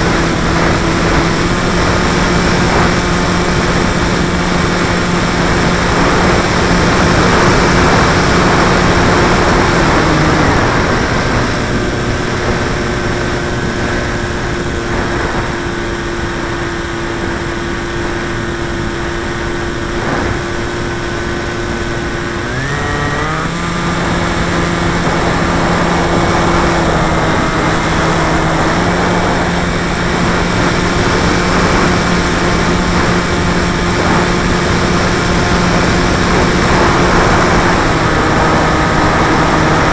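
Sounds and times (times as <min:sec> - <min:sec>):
model plane motor and propeller: 0:00.0 - 0:39.9
wind rushing past microphone: 0:00.0 - 0:39.9.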